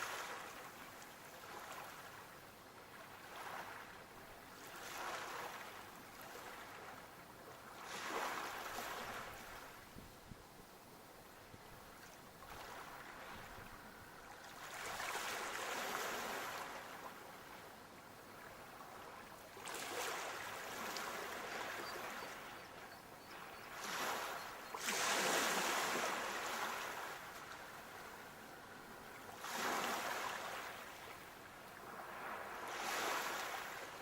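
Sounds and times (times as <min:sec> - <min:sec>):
sea waves breaking on shore: 0:00.0 - 0:10.0, 0:11.9 - 0:34.0.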